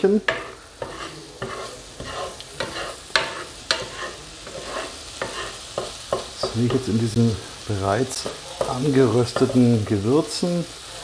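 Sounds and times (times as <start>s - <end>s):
vegetables sizzling: 0.0s - 11.0s
spatula scraping frying pan: 0.2s - 6.9s, 8.1s - 10.4s.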